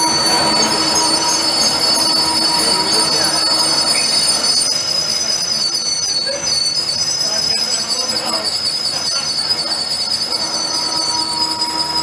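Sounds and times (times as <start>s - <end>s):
lathe metal squeal: 0.0s - 12.0s
lathe running: 0.0s - 12.0s.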